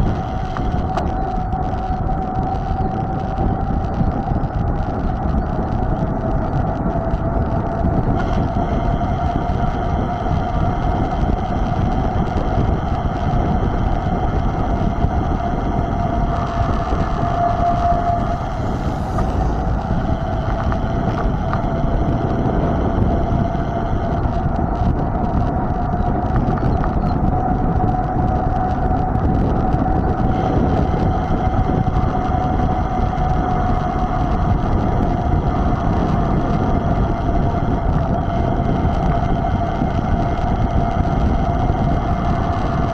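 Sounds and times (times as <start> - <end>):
bike hum: 0.0 - 42.9
wind rumbling on microphone: 0.0 - 42.9.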